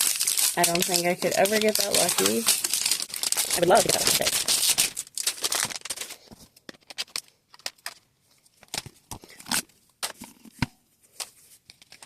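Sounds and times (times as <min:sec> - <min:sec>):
plastic and cardboard packaging crinkling: 0:00.0 - 0:12.0.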